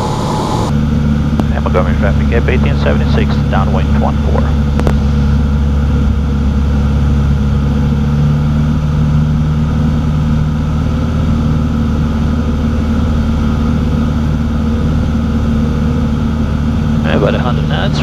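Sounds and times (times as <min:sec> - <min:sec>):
airplane engine and propeller droning: 0:00.0 - 0:18.0.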